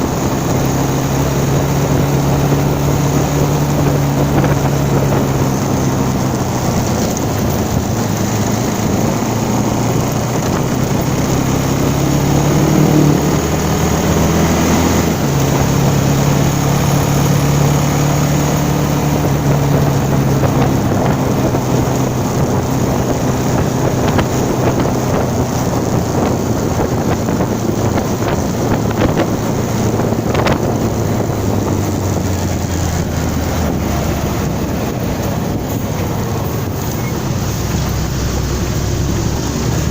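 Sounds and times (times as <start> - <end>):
vehicle engine revving: 0.0 - 39.9
wind buffeting microphone: 0.0 - 39.9.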